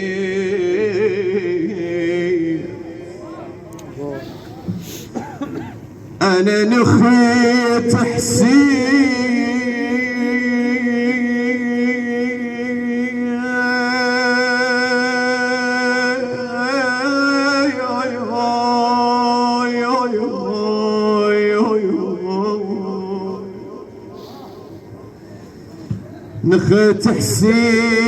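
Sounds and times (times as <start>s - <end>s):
man singing wordless melody: 0.0s - 3.7s, 6.2s - 25.2s, 26.4s - 28.0s.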